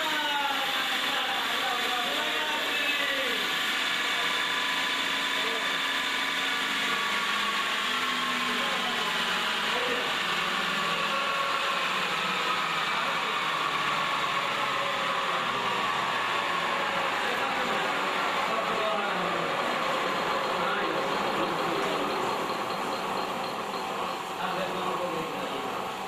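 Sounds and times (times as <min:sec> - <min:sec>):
lathe machine whine: 0:00.0 - 0:26.0.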